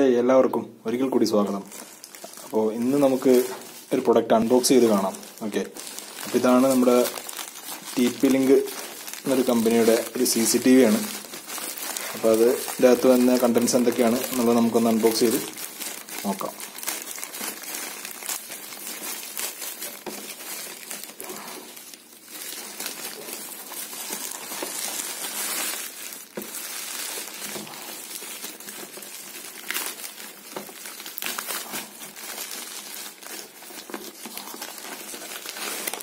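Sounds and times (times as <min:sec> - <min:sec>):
bubble wrap rustling: 0:00.0 - 0:36.0
plastic bag crinkling and tearing: 0:00.9 - 0:36.0.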